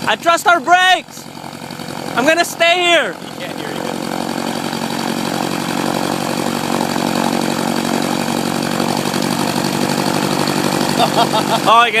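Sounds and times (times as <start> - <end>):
propeller aircraft engine running: 0.0 - 12.0.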